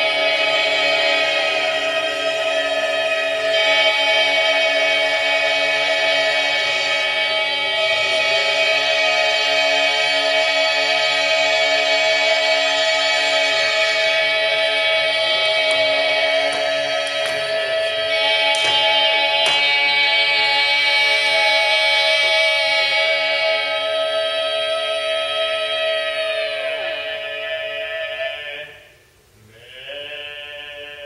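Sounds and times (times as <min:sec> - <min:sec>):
a cappella chorus singing: 0:00.0 - 0:31.0.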